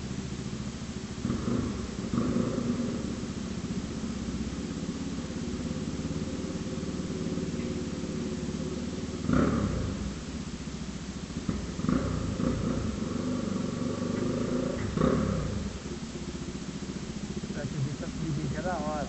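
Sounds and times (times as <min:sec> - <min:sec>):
motorcycle engine with loud exhaust: 0:00.0 - 0:19.0
motorcycle throttle bursts: 0:00.0 - 0:19.0.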